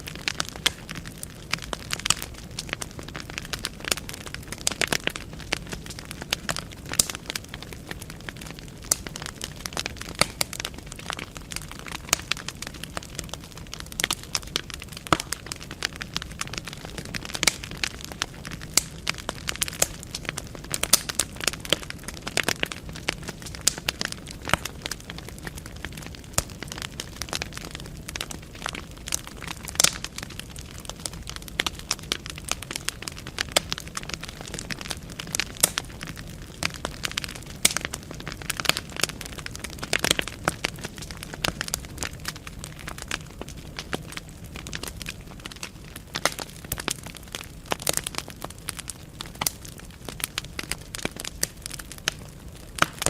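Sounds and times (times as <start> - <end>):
logs crackling and popping: 0.0 - 53.0.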